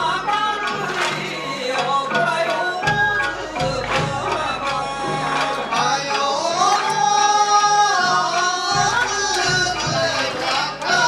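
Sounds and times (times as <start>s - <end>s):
folk dance music: 0.0s - 11.0s.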